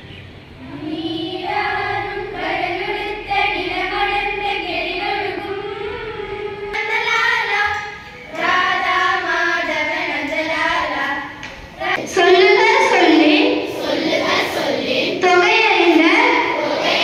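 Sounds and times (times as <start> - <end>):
girls singing in chorus: 0.6 - 17.0.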